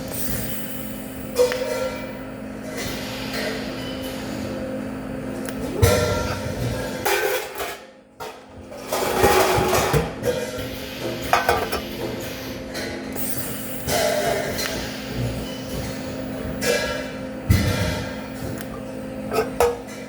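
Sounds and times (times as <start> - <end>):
steady hum: 0.0 - 8.2, 9.1 - 20.0.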